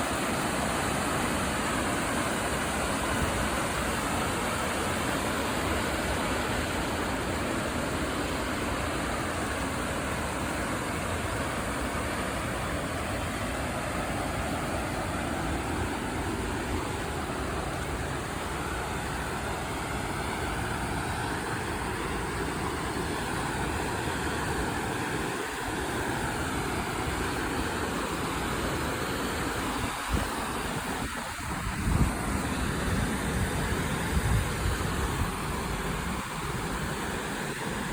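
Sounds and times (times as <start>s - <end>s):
creek water running: 0.0s - 37.9s.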